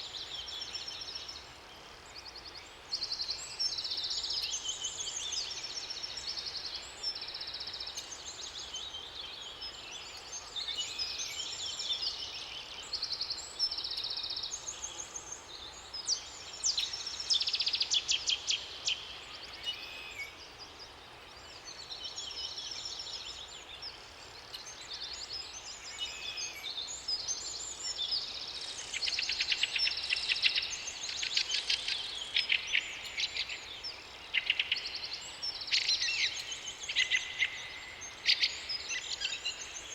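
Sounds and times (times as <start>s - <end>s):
faint background noise: 0.0s - 39.9s
songbirds singing: 0.0s - 39.9s.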